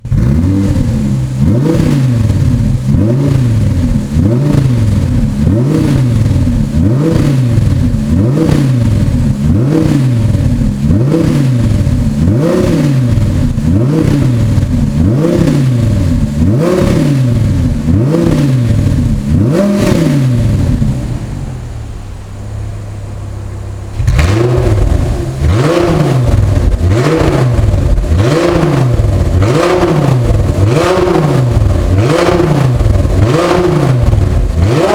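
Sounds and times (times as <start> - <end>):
car engine idling: 0.0 - 34.9
car engine revving: 0.0 - 34.9.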